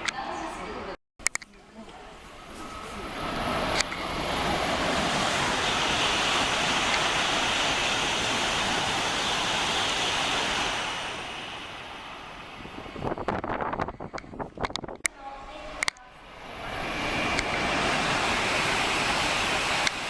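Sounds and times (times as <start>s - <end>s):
train passing at high speed: 2.0s - 20.0s.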